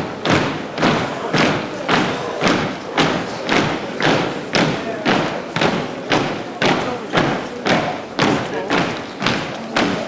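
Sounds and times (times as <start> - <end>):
pipe band drums beating: 0.0 - 10.0.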